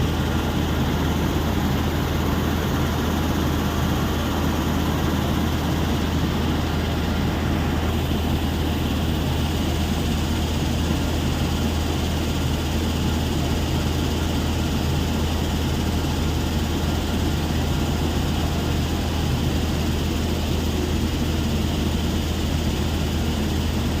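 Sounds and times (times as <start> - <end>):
deep mechanical drone: 0.0 - 24.0.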